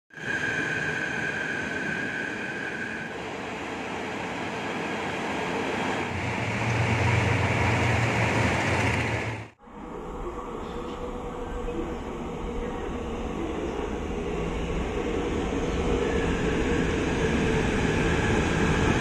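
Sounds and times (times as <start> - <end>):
trains running: 0.2 - 19.0.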